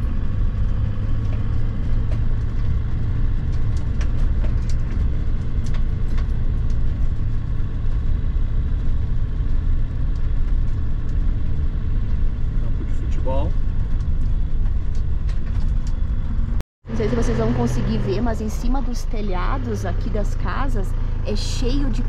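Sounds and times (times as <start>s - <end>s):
tyres and engine rumbling: 0.0s - 22.0s
vehicle body rattling: 0.0s - 22.0s.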